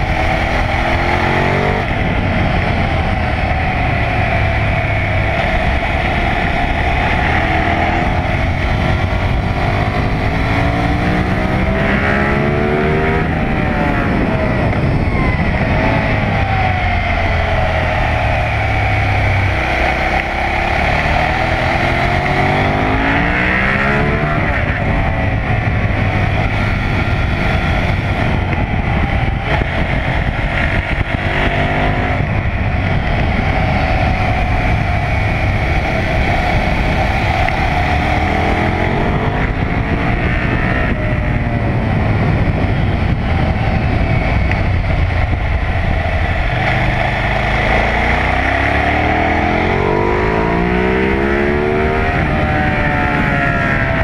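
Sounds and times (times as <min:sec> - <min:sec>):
motorcycle engine revving: 0:00.0 - 0:54.0
wind rush on microphone: 0:00.0 - 0:54.0.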